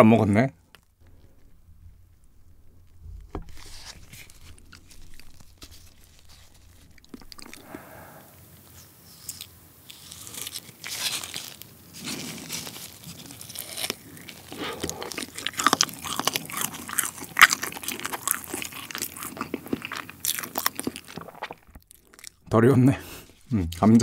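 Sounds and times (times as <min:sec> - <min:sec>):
chewing with crisp crunches: 0:00.7 - 0:24.0.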